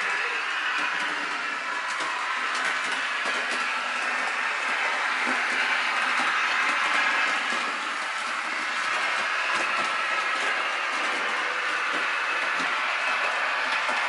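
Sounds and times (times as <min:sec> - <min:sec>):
diesel railbus sound from speaker: 0:00.0 - 0:14.0
model motor whirring: 0:00.0 - 0:14.0
wheels clicking on track: 0:00.0 - 0:14.0.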